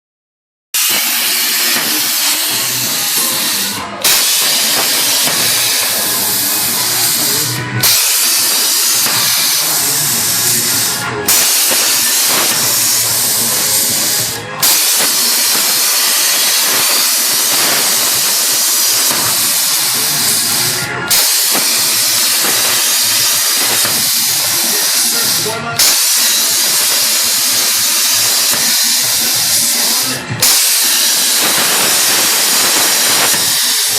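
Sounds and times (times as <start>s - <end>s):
plasma cutter hissing: 0.8s - 33.9s.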